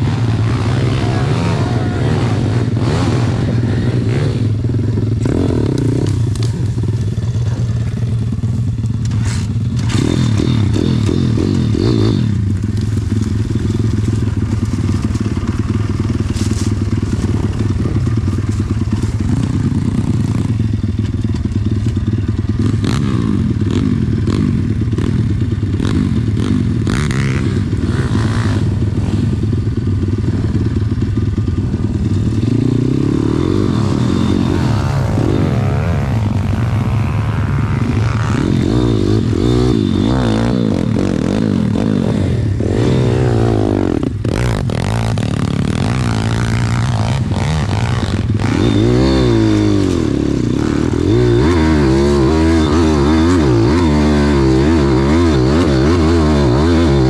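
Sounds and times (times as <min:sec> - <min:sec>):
small motorcycle engine running: 0:00.0 - 0:57.0.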